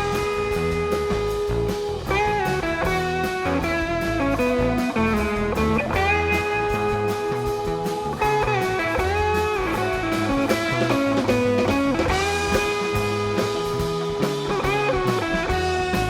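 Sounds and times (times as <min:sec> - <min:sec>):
bass guitar: 0:00.0 - 0:16.0
electric guitar lead: 0:00.0 - 0:16.0.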